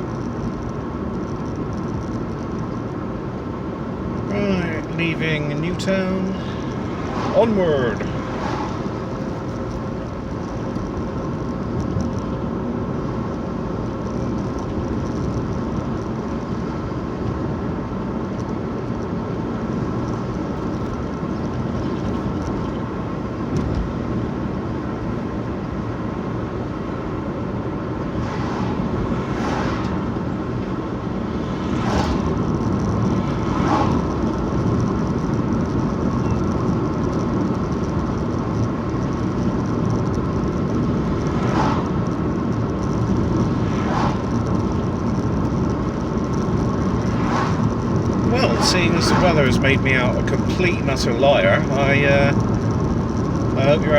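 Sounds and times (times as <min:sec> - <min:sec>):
car interior road noise: 0:00.0 - 0:53.9.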